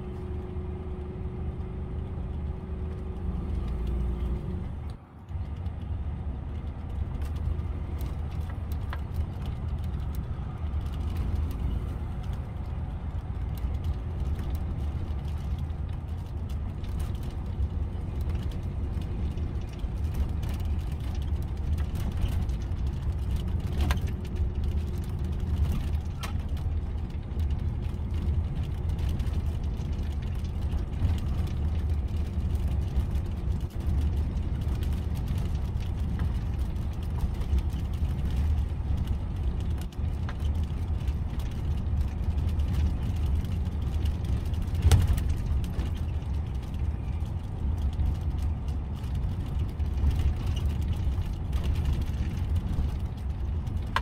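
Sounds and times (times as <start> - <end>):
vehicle engine and tyre rumble: 0.0 - 54.0.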